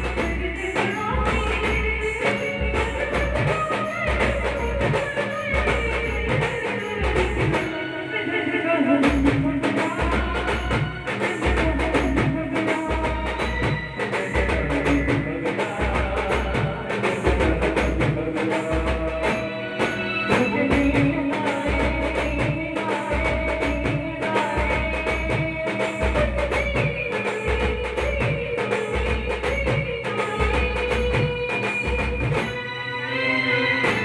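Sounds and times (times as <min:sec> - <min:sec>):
man singing into a microphone: 0:00.0 - 0:32.5.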